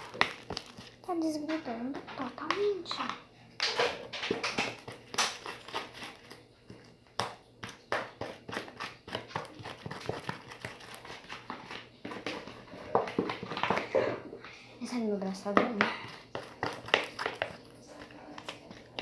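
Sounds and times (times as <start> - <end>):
spoon clicking and knocking: 0.0 - 13.9, 15.5 - 19.0
slime squelching: 0.0 - 19.0
spoon stirring slime: 0.0 - 19.0.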